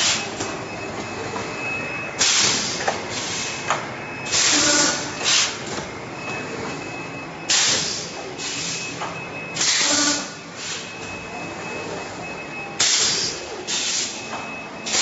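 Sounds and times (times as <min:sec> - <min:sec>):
machine running: 0:00.0 - 0:15.0.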